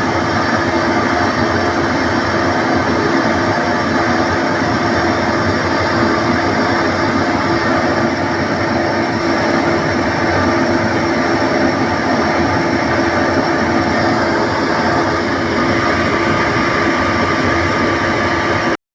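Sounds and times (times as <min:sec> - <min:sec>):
air compressor humming: 0:00.0 - 0:18.8.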